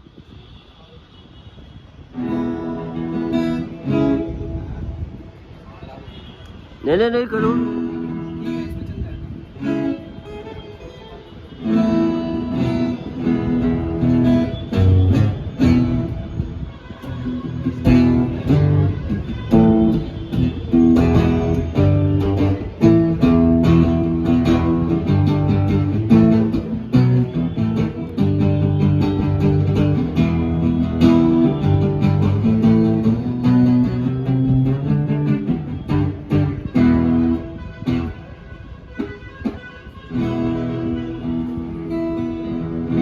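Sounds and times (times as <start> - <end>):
amplified guitar playing: 2.1 - 5.4, 7.2 - 43.0.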